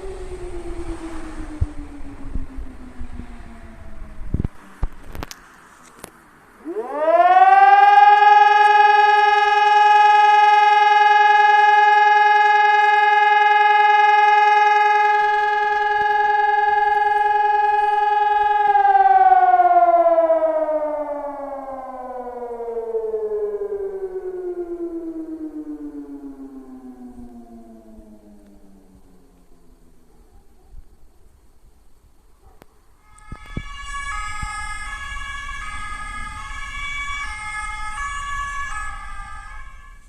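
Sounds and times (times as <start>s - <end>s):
fire alarm siren: 0.0s - 4.5s, 6.6s - 30.0s, 33.0s - 40.0s.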